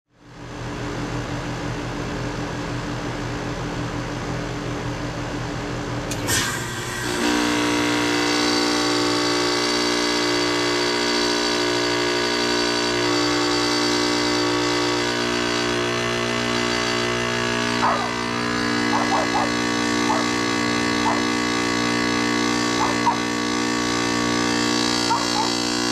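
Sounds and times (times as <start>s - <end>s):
heat pump humming: 0.2s - 25.9s.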